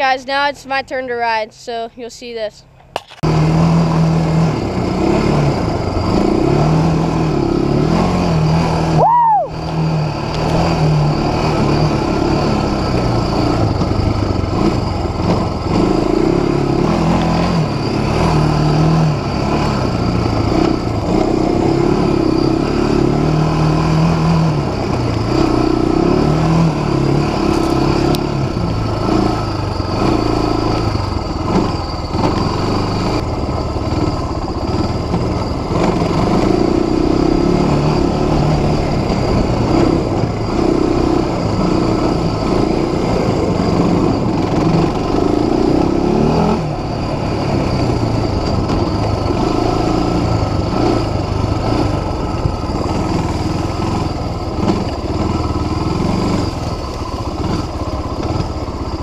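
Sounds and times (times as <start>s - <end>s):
atv engine revving: 3.2s - 59.0s.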